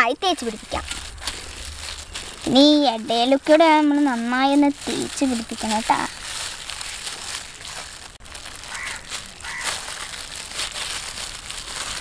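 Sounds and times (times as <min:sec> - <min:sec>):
plastic glove crinkling: 0:00.0 - 0:12.0.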